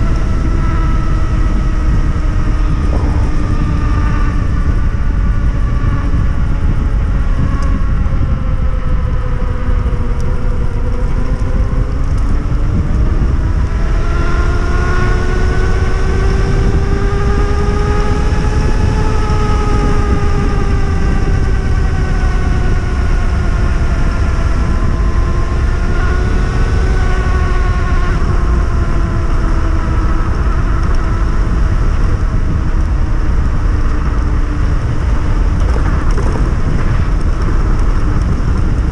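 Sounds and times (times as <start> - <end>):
electric motor whine: 0.0 - 38.9
wind rumble on microphone: 0.0 - 38.9.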